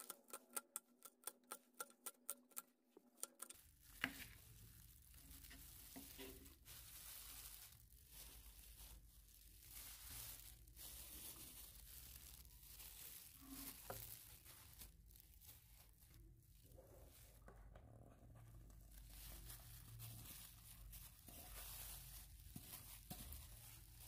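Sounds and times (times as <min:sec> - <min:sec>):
plastic glove rustling: 0:03.4 - 0:24.0.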